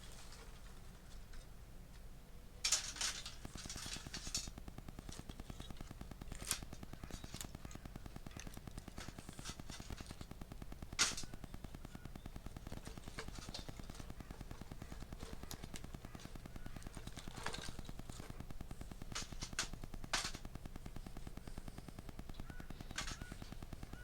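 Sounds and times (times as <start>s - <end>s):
wood fire crackling: 0.0s - 24.0s
sharp pops of fire: 3.1s - 24.0s.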